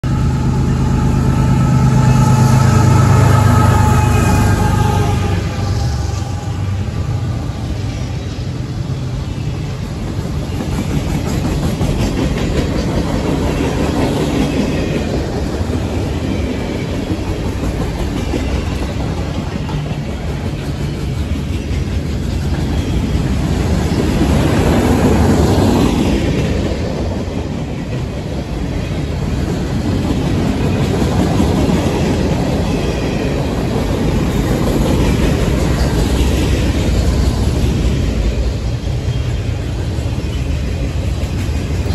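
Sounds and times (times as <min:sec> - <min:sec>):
freight train wheels on rail: 0:00.0 - 0:41.9.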